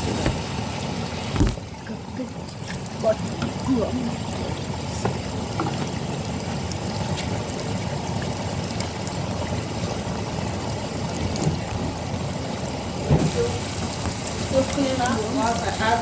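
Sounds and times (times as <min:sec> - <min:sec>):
water pouring from hose into tub: 0:00.0 - 0:16.0.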